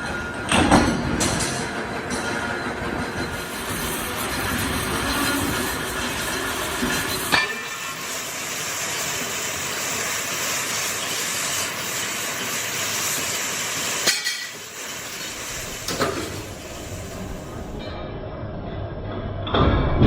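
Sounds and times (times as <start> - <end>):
factory machinery hissing: 0.0 - 18.0.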